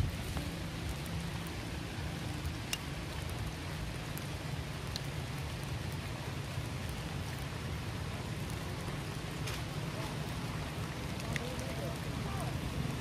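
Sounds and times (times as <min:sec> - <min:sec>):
rain falling on puddles: 0:00.0 - 0:13.0.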